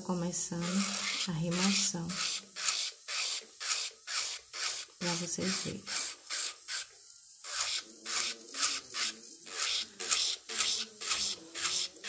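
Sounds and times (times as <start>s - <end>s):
electric nail drill grinding: 0.6s - 12.0s.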